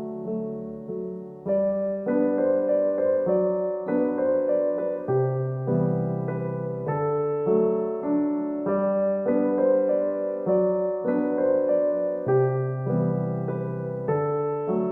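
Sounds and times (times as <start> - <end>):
gentle piano tune: 0.0 - 14.9.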